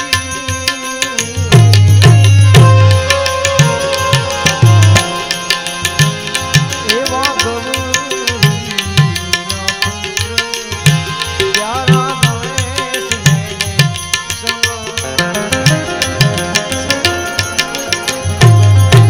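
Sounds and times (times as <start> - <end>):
wavering folk melody: 0.0 - 19.0
hand drums beat: 1.1 - 19.0.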